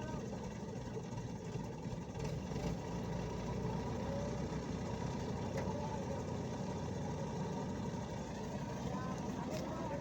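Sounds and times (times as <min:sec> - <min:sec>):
engine low rumble: 0:00.0 - 0:10.0.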